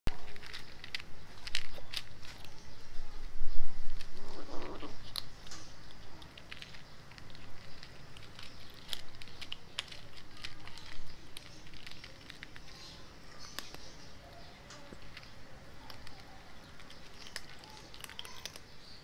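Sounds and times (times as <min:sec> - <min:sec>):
cats crunching dry kibble: 0:00.1 - 0:19.0.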